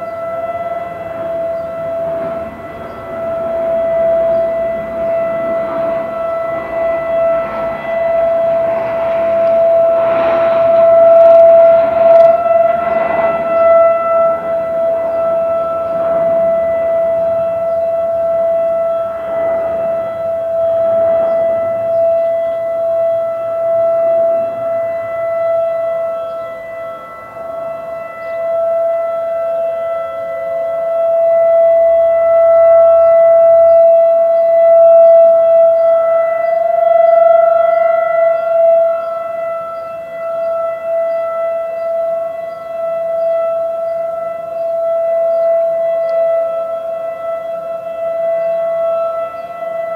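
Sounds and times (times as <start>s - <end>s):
tornado warning siren steady tone: 0.0s - 49.9s.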